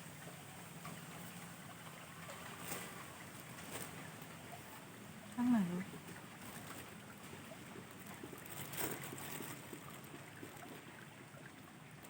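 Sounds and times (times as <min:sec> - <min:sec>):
moving water: 0:00.0 - 0:12.0
wind: 0:00.0 - 0:12.0.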